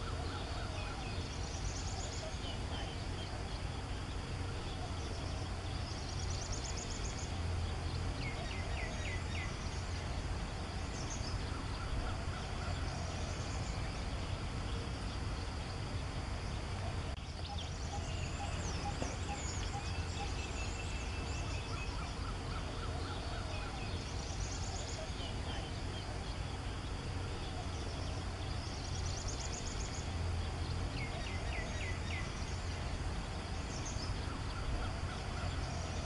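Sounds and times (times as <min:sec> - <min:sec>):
steady low rumble: 0:00.0 - 0:36.0
wild birds calling: 0:00.0 - 0:36.0.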